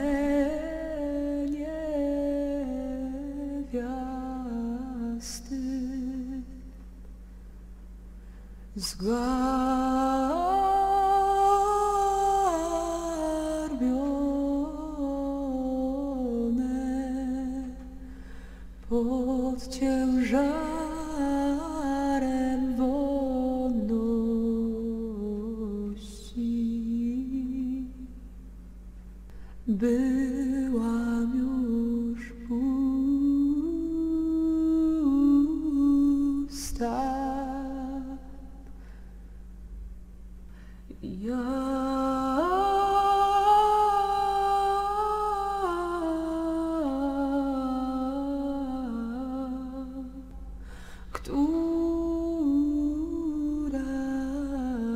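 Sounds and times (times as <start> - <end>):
woman humming a slow melody: 0.0 - 6.7, 8.7 - 18.2, 18.9 - 28.2, 29.7 - 38.6, 40.9 - 50.4, 51.2 - 54.9.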